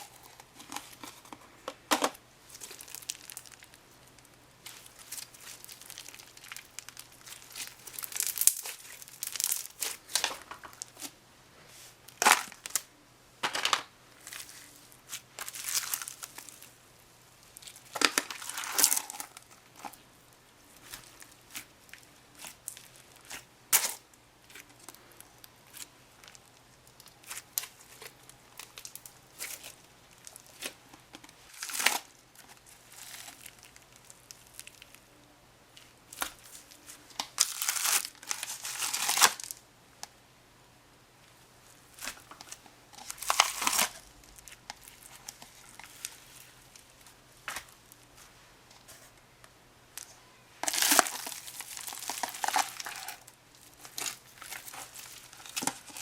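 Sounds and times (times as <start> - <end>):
crunchy slime crackling: 2.4 - 11.2, 12.1 - 12.9, 14.2 - 16.8, 17.4 - 20.0, 20.6 - 35.2, 35.8 - 39.6, 41.8 - 48.2, 50.0 - 56.0.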